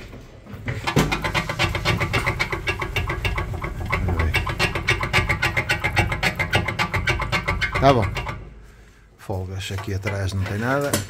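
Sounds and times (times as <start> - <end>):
machine clattering: 0.7 - 8.7, 9.4 - 11.0.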